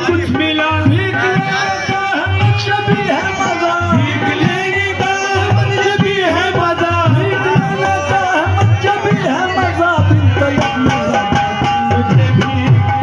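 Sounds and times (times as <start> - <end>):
hand-drum rhythm: 0.0 - 13.0
voices singing ornamented melody: 0.0 - 13.0.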